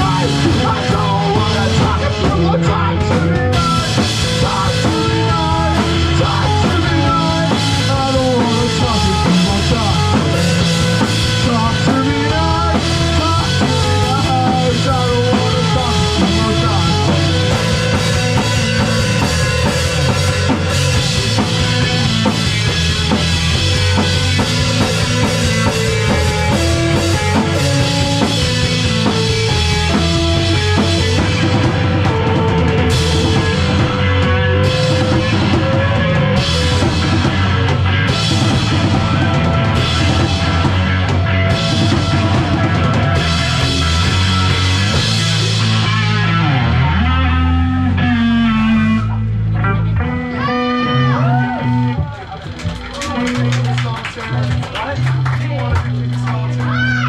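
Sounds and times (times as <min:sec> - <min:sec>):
loud rock band playing: 0:00.0 - 0:57.0.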